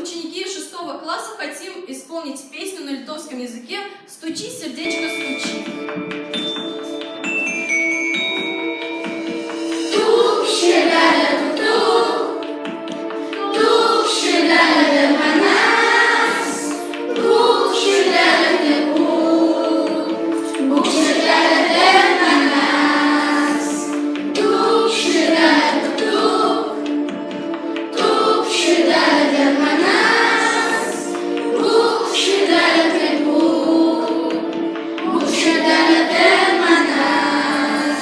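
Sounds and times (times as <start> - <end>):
children's choir singing: 4.8 - 38.0.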